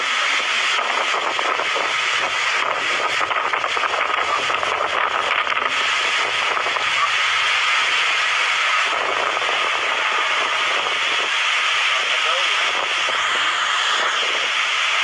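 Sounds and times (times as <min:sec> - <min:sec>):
driving rain: 0:00.0 - 0:15.0
strong wind: 0:00.0 - 0:15.0.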